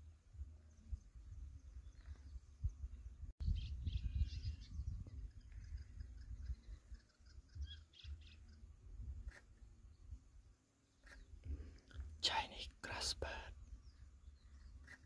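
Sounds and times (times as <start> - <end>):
small bird chirping: 0.6 - 10.2, 10.8 - 15.0.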